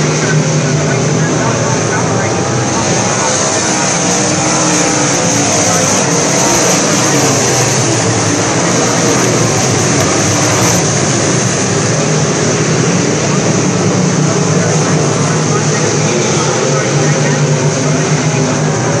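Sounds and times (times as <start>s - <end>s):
race car engines roaring: 0.0s - 19.0s.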